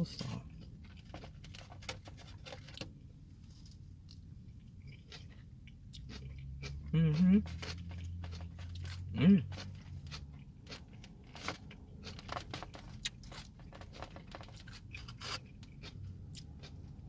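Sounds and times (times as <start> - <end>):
person chewing crunchy food: 0.2 - 17.0.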